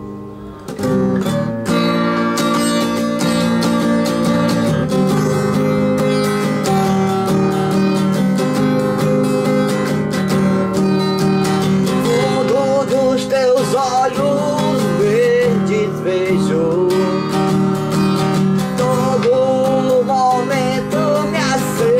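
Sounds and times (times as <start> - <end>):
strummed guitar: 0.0 - 21.9.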